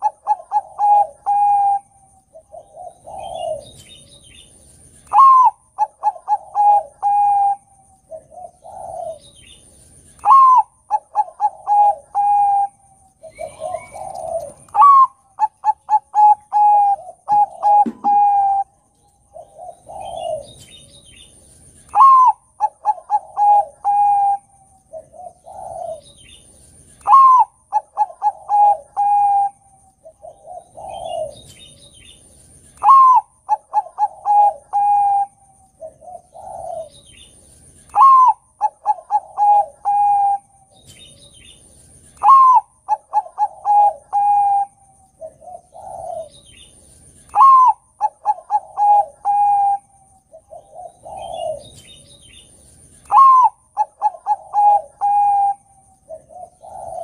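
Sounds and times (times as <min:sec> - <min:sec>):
dove cooing song: 0:00.0 - 0:57.0.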